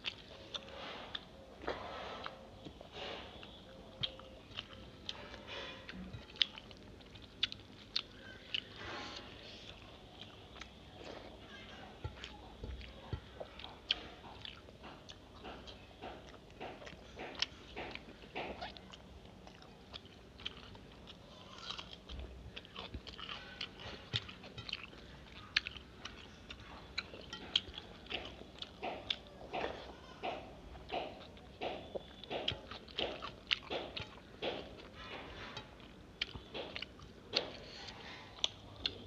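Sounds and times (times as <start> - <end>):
person chewing with wet mouth smacks: 0.0 - 11.3, 12.0 - 39.0.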